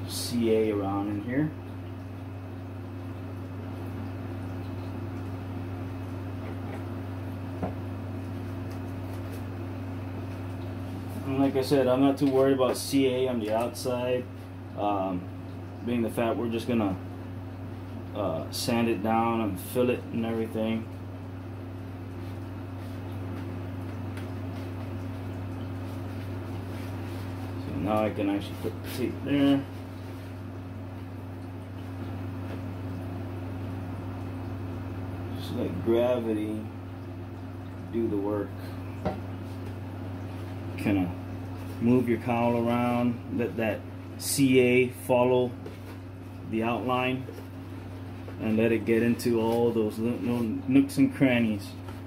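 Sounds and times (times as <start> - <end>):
room hum: 0.0 - 52.0.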